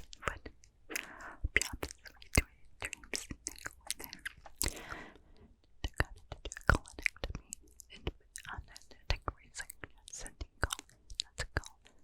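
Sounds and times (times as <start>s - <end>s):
wet mouth clicks and pops: 0.0s - 5.0s, 5.6s - 12.0s.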